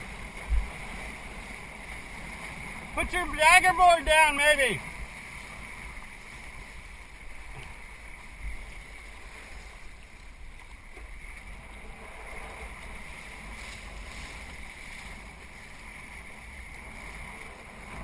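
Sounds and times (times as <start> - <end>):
wind rumbling on microphone: 0.0 - 3.2, 4.8 - 18.0
water washing along kayak hull: 0.0 - 18.0.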